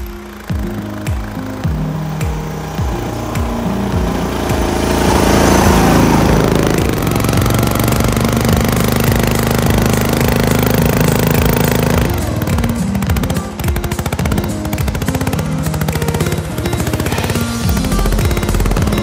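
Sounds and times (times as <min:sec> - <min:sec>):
riding mower engine running: 0:00.0 - 0:19.0.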